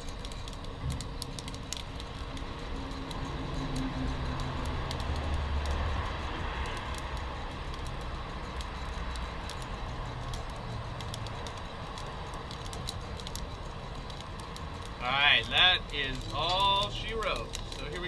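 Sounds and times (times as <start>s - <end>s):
coffee beans cracking: 0.0s - 18.0s
steady hiss: 0.0s - 18.0s.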